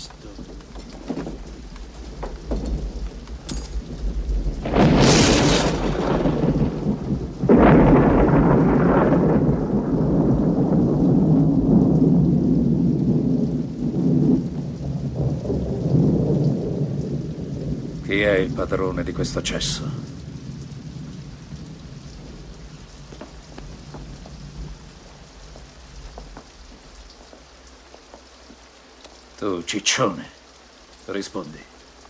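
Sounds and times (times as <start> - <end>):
thunderclap: 0.0 - 27.1
rolling peal of thunder: 0.0 - 27.2
steady rain: 0.0 - 32.0.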